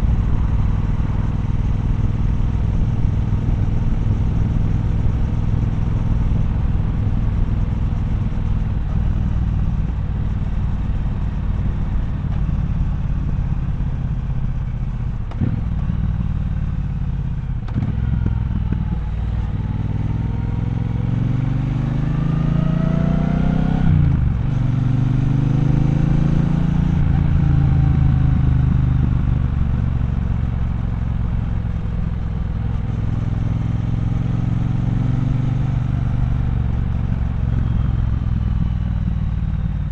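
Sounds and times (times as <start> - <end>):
motorcycle engine running and accelerating: 0.0 - 39.9.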